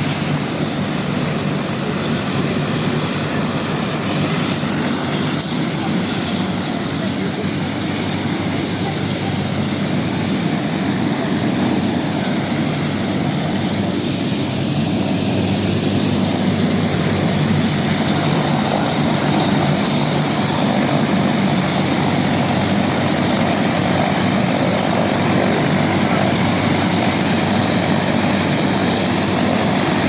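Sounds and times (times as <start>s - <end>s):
helicopter rotor and engine noise: 0.0s - 30.0s
high turbine whine: 0.0s - 30.0s.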